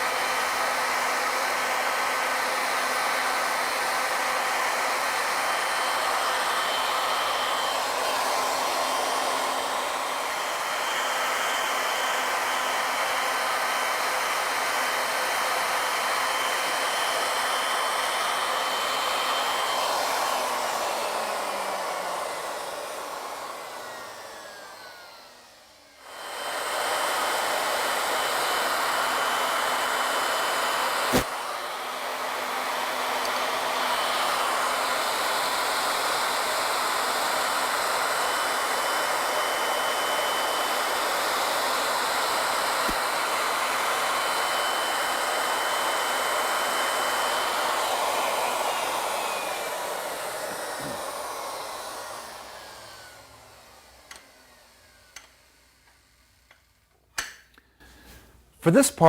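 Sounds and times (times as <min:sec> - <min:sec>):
router spinning down: 0:00.0 - 0:56.7
wood router whining: 0:00.0 - 0:57.1.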